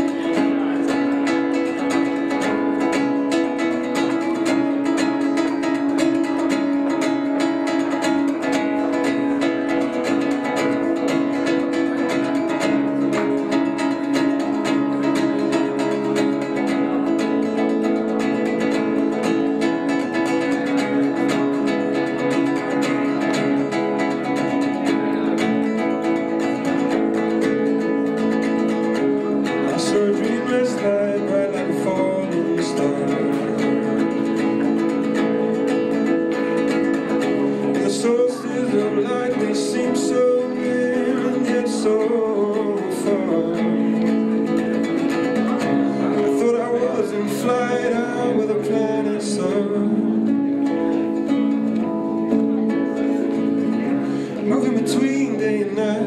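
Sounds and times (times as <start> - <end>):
nylon-string acoustic guitar: 0.0 - 56.0.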